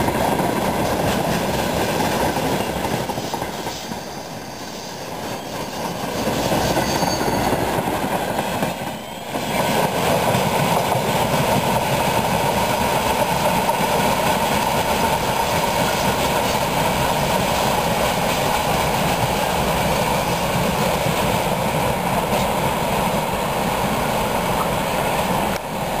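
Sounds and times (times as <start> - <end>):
freight train rolling along track: 0.0 - 26.0.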